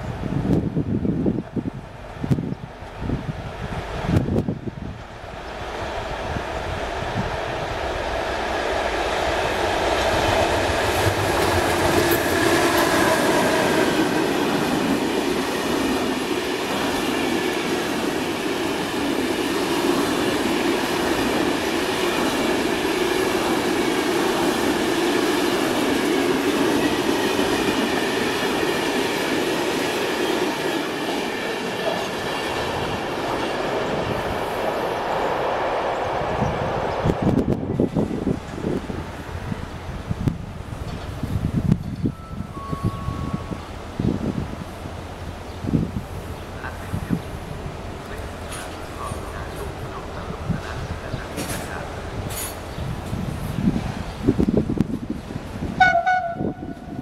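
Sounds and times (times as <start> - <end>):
train wheels rumbling on rail: 0.0 - 57.0
train whine: 0.0 - 57.0.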